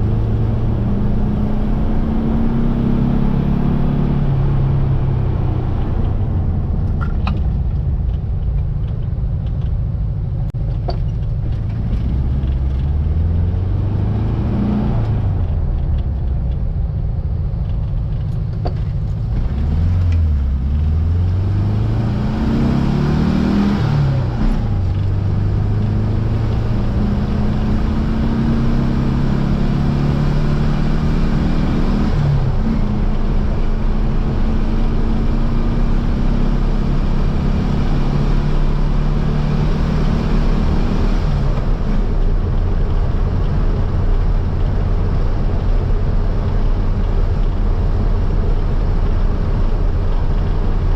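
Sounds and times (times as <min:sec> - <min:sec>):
car engine pulling: 0:00.0 - 0:50.9.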